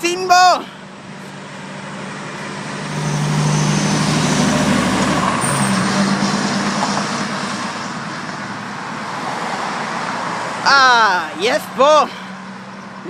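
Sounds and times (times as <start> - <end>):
fire engine driving past: 0.6 - 13.0.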